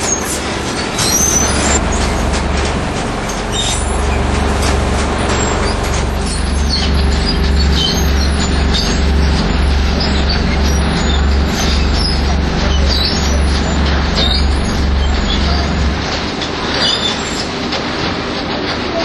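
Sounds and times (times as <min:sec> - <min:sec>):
machinery low pulsing hum: 0:00.0 - 0:17.8
rattling and scraping: 0:00.0 - 0:18.8.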